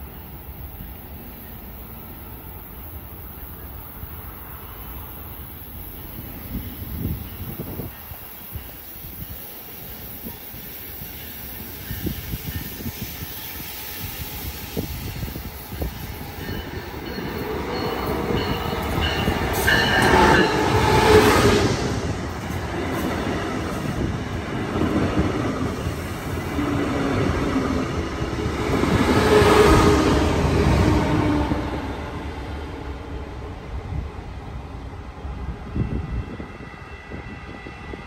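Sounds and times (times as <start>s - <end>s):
diesel locomotive passing: 0.0s - 38.0s
train coaches rolling by: 0.0s - 38.0s.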